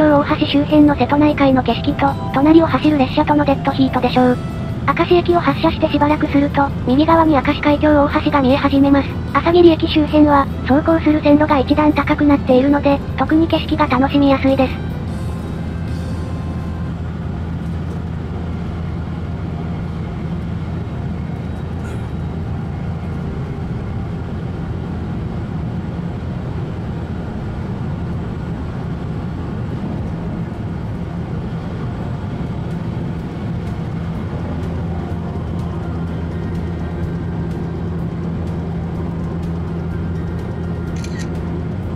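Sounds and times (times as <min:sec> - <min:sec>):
train interior rumble: 0:00.0 - 0:41.9.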